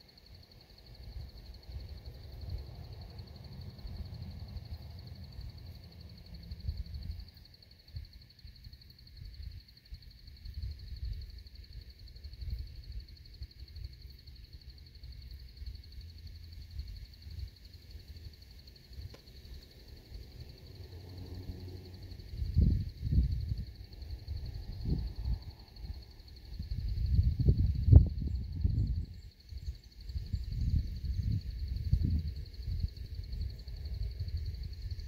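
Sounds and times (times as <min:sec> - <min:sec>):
high-pitched insect trill: 0:00.0 - 0:35.0
wind rumble on microphone: 0:01.0 - 0:08.2, 0:09.1 - 0:13.9, 0:15.5 - 0:35.0.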